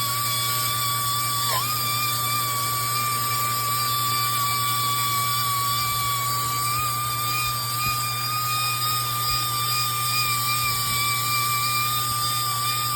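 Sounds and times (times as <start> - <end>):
small motor whining: 0.0 - 12.9.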